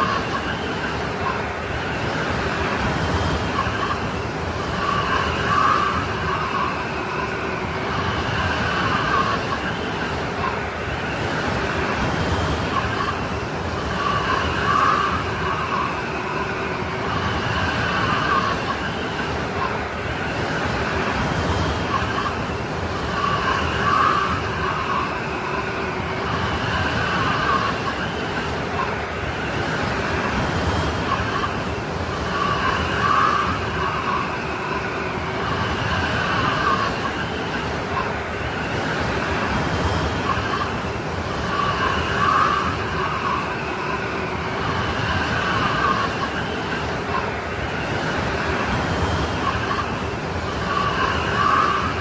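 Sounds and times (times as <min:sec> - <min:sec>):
howling snowstorm wind: 0:00.0 - 0:52.0.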